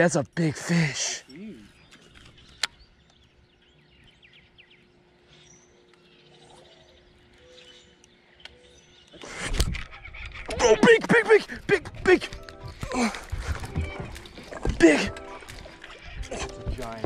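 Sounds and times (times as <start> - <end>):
faint birds chirping: 0.0 - 17.0
quiet steady hum: 0.0 - 17.0.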